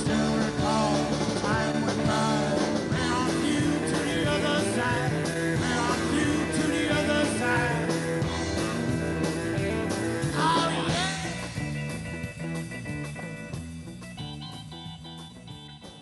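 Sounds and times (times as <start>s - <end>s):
drums: 0.0s - 16.0s
electric guitar: 0.0s - 16.0s
keyboards: 0.0s - 16.0s.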